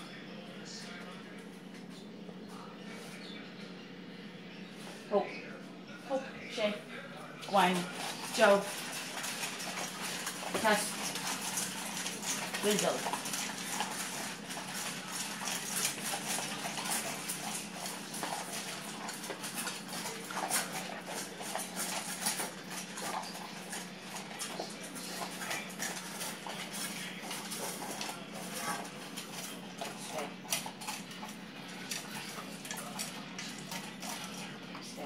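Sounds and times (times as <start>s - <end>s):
dogs chewing and licking: 0.0s - 3.8s, 4.5s - 35.0s
steady low hum: 0.0s - 35.0s.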